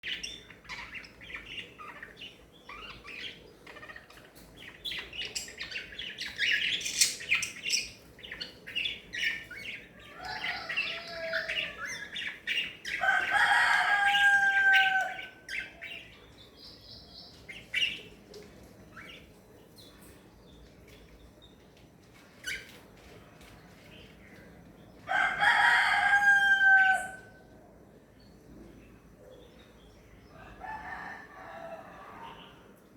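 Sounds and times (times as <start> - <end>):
parrots chirping and chattering: 0.0 - 27.3.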